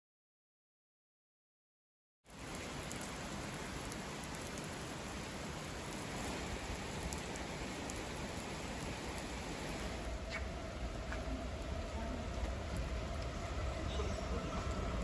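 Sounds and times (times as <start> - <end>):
steady rain falling: 2.3 - 15.0.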